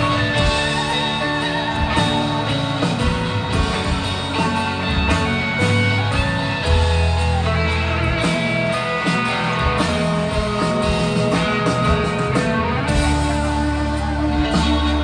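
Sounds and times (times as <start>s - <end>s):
electric guitar: 0.0s - 15.0s
live rock band: 0.0s - 15.0s.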